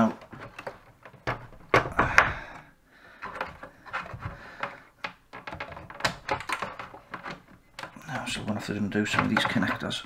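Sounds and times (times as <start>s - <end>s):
plastic parts clicking and tapping: 0.0s - 10.0s.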